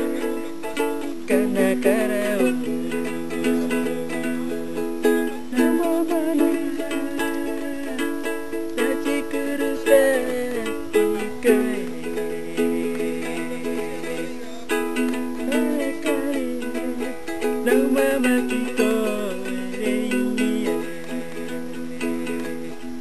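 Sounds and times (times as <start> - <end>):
ukulele strumming chords: 0.0 - 23.0.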